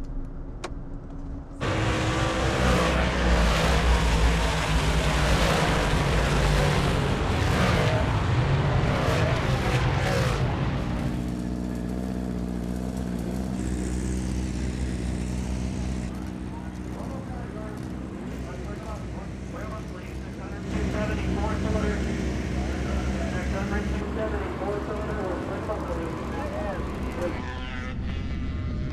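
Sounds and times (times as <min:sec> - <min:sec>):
race car engines at high revs: 0:01.6 - 0:28.9.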